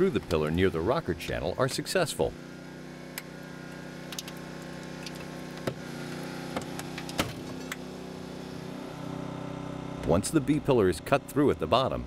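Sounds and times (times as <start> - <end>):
hydraulic power unit running: 0.0 - 11.8.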